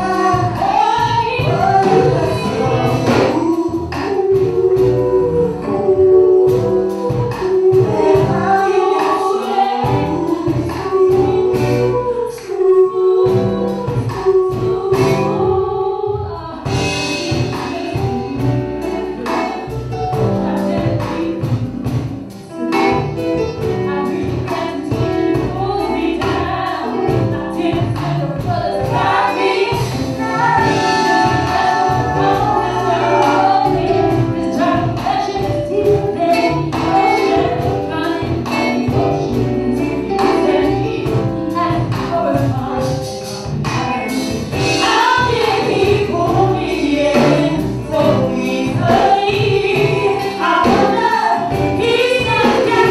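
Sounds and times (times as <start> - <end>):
drums: 0.0 - 52.9
keyboards: 0.0 - 52.9
woman singing lead: 0.0 - 52.9.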